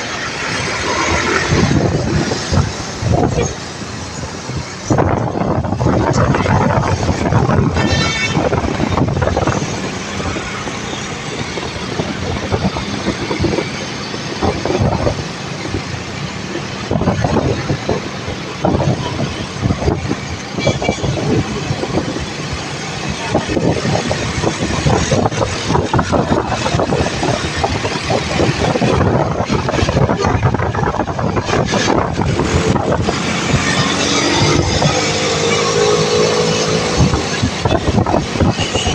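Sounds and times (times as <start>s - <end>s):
road traffic noise: 0.0s - 38.9s.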